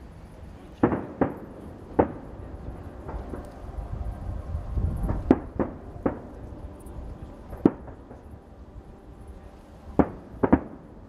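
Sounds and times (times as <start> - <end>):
fireworks bursting with echo: 0.4 - 11.0.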